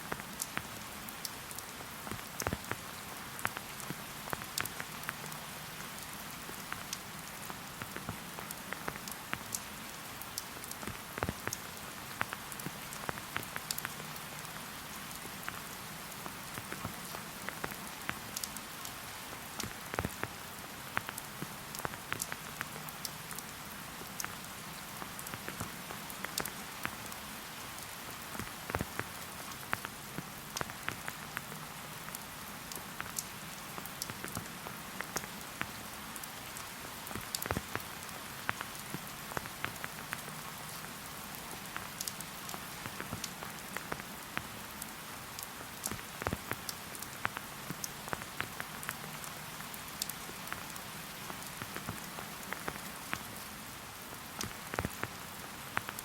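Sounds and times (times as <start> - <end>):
rain hissing in forest: 0.0 - 56.0
raindrops ticking close by: 0.0 - 56.0.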